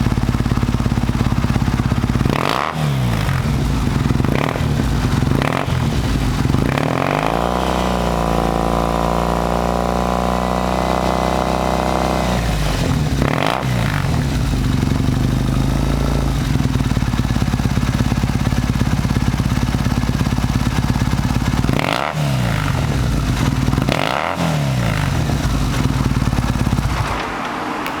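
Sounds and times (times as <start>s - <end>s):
motorcycle engine revving and idling: 0.0s - 27.2s.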